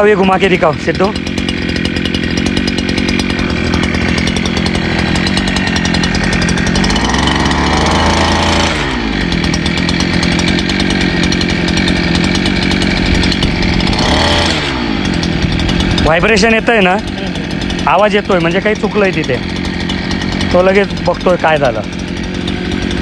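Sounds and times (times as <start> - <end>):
brush cutter engine running fast: 0.0 - 23.0.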